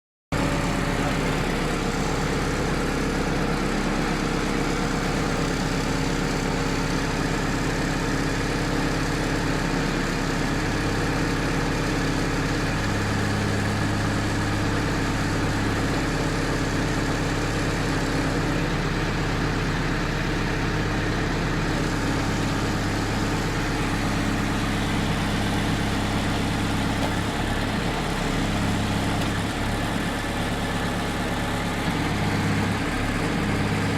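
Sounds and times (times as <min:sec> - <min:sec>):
drilling rig engine running: 0:00.3 - 0:33.9.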